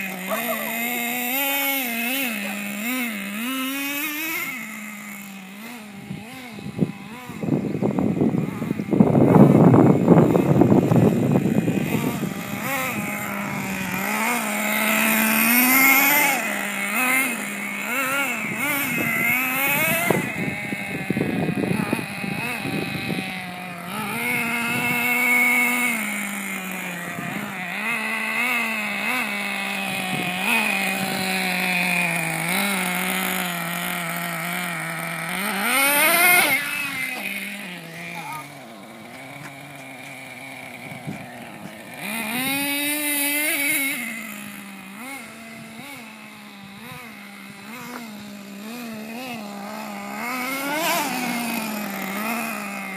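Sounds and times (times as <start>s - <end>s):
small nitro engine revving: 0.0s - 52.9s.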